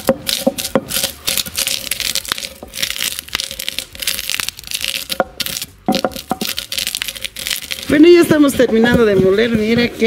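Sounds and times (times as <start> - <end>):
grinding stone scraping grain: 0.0 - 10.0.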